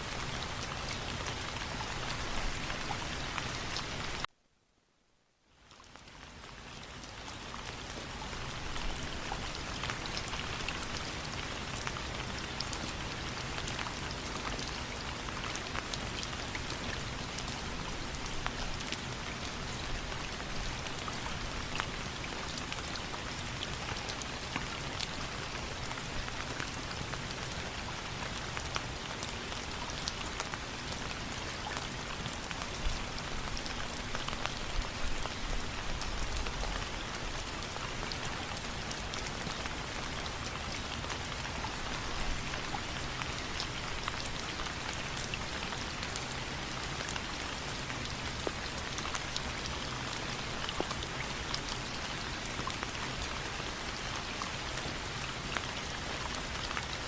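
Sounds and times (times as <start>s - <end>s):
steady rain falling: 0.0s - 4.3s, 5.4s - 57.0s.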